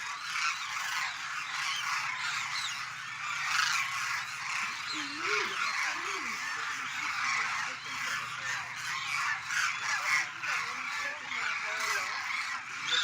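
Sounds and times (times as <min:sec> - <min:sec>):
flock of cranes honking: 0:00.0 - 0:13.0.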